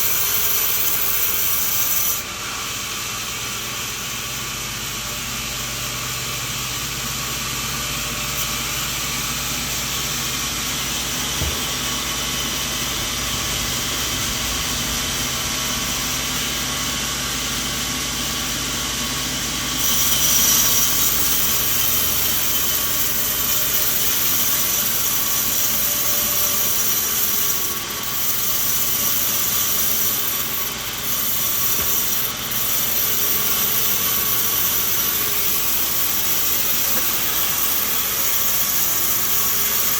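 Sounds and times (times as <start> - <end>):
sawmill machine sawing a log: 0.0 - 39.9.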